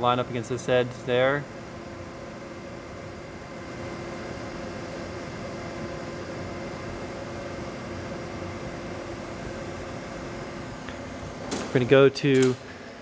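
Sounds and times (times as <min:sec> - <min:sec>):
equipment fan hum: 0:00.0 - 0:13.0.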